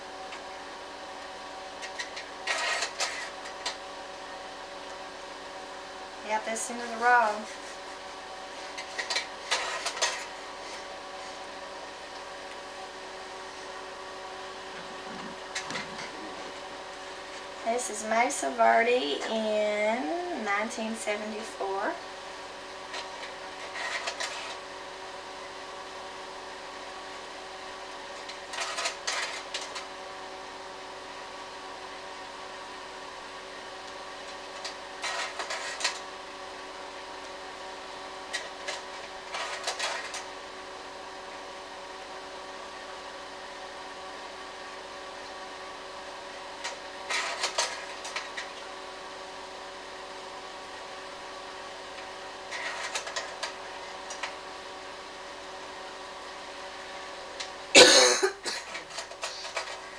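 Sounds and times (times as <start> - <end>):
projector fan and motor hum: 0.0 - 59.9.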